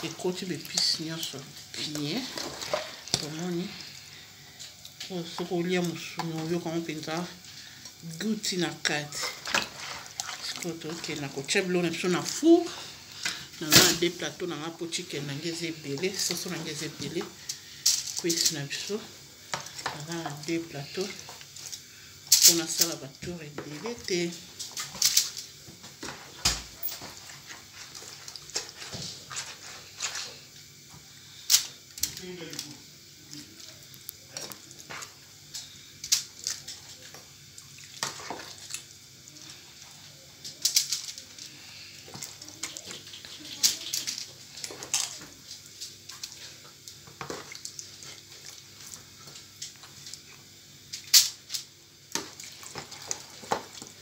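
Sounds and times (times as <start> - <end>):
wet squelches of stirred chicken: 0.0 - 50.4, 52.1 - 54.0.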